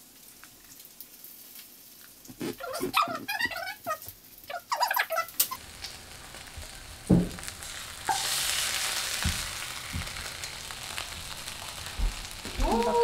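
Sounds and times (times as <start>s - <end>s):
eggs sizzling in hot oil: 0.0s - 13.0s.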